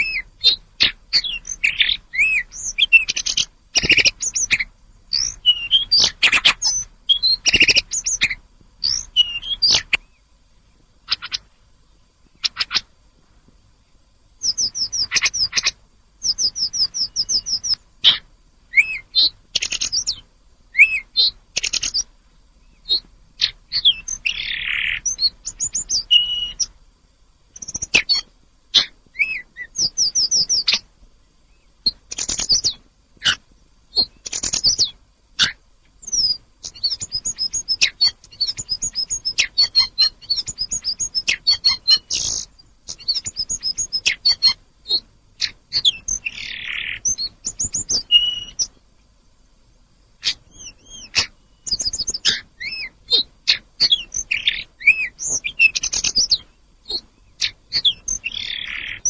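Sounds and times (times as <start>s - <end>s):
songbird chirping and twittering: 0.0s - 59.0s.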